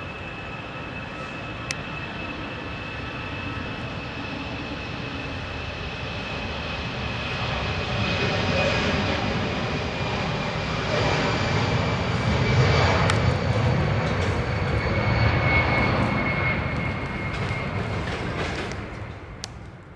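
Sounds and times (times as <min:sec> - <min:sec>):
jet engines at takeoff thrust: 0:00.0 - 0:19.9.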